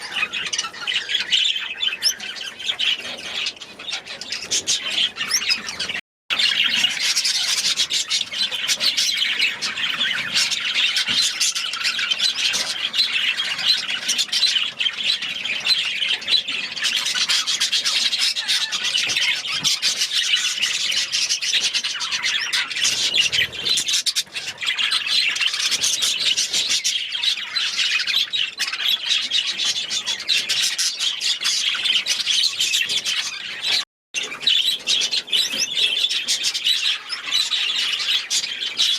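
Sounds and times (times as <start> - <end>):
caged birds chirping and squawking: 0.0 - 38.9.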